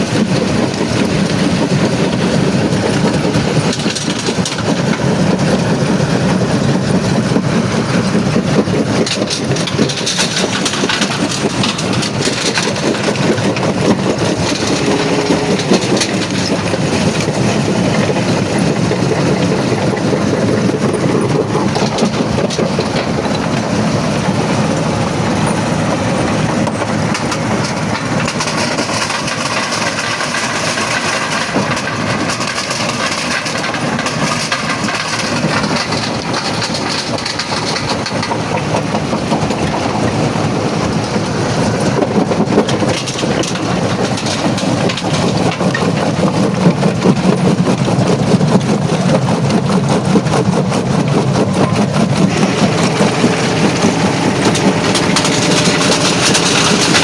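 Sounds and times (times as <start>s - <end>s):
rock crusher grinding rumble: 0.0s - 57.0s
stone rattling and cracking: 0.1s - 24.2s, 26.8s - 57.0s.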